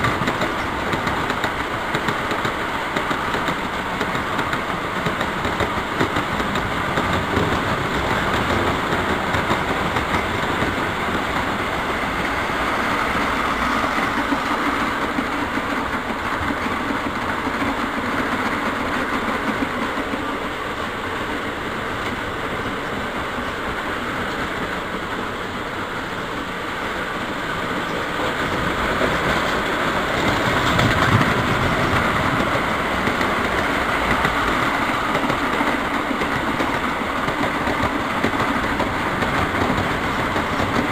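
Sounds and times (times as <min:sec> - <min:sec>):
model trains rumbling on track: 0:00.0 - 0:40.9.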